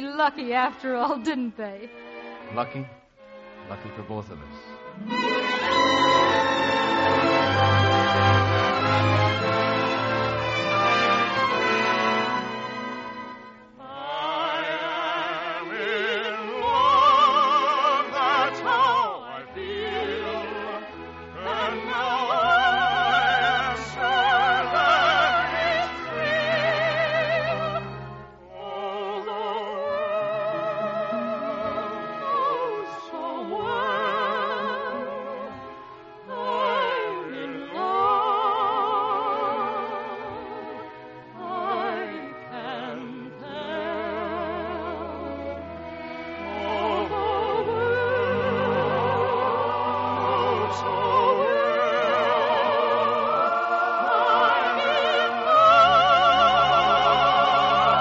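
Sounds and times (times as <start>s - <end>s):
orchestra playing: 0.0s - 33.4s, 34.0s - 58.0s
operatic singing with vibrato: 0.0s - 58.0s.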